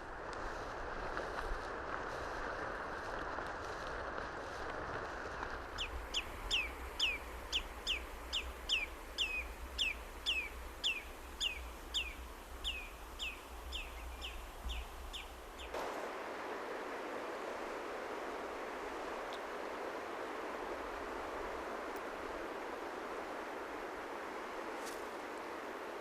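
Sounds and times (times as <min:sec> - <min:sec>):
low wind rumble: 0:00.0 - 0:26.0
steady rushing noise: 0:00.0 - 0:26.0.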